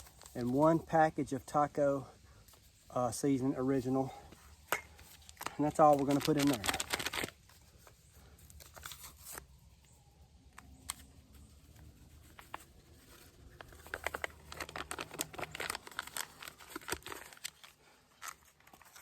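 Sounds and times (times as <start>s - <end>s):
paper packets crinkling and tearing: 0.0s - 1.7s, 2.4s - 19.0s.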